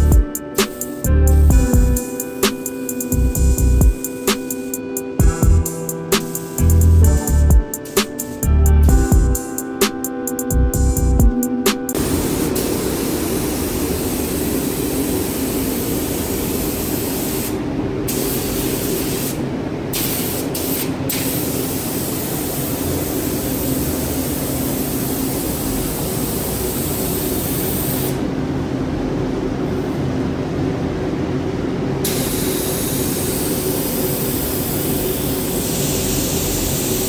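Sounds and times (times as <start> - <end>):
spray gun hissing: 0.0 - 8.4, 11.9 - 28.2, 32.0 - 37.0
steady low hum: 0.0 - 37.0.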